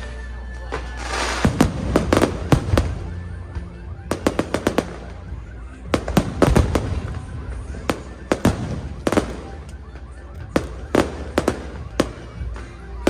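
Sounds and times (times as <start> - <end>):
fireworks bangs: 0.6 - 13.0.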